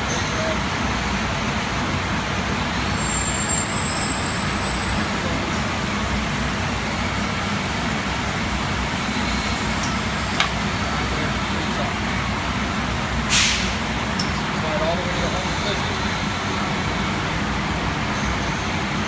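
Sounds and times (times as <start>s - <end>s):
industrial machinery hum: 0.0s - 19.0s.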